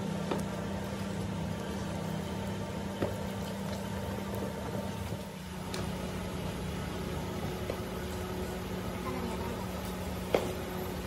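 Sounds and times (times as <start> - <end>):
low machinery drone: 0.0 - 11.0.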